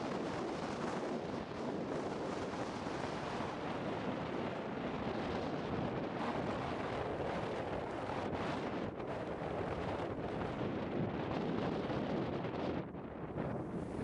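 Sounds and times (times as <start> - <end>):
lava eruption crackling noise: 0.0 - 14.0.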